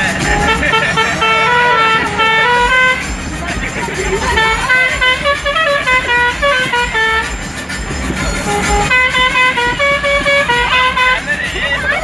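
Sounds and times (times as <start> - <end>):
vehicle rumble: 0.0 - 12.0
musical air horn playing tune: 0.1 - 3.3, 4.1 - 7.6, 8.2 - 11.5.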